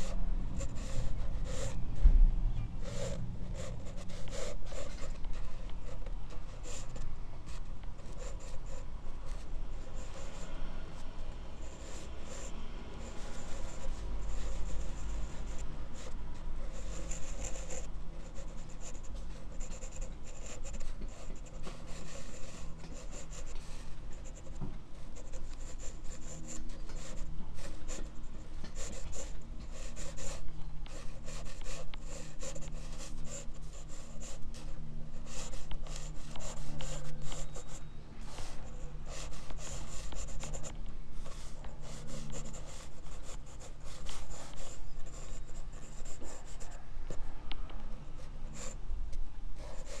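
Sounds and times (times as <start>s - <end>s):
pencil scratching on paper: 0.0s - 1.9s, 2.8s - 11.0s, 11.6s - 47.6s, 48.2s - 48.8s, 49.6s - 50.0s
steady low hum: 0.0s - 50.0s.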